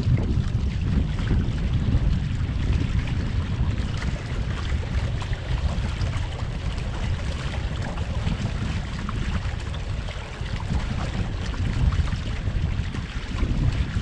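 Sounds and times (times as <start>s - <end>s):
water splashing along hull: 0.0s - 14.0s
wind buffeting microphone: 0.0s - 14.0s.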